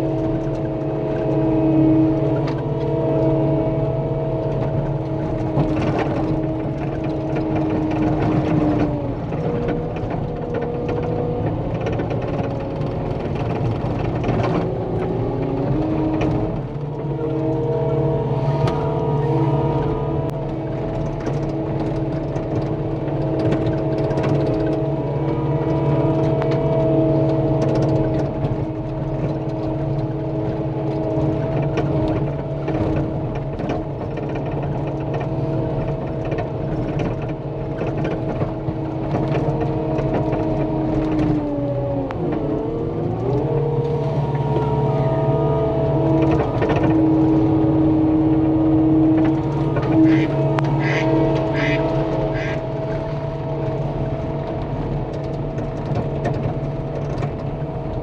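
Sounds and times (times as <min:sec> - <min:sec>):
diesel engine at high revs: 0:00.0 - 0:58.0.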